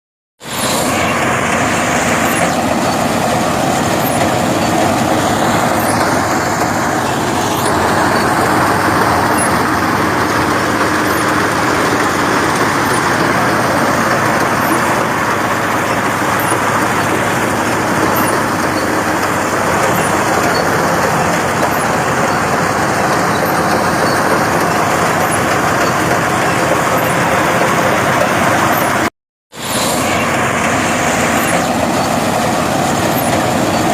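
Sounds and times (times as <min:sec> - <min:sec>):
combine harvester running: 0:00.4 - 0:33.9.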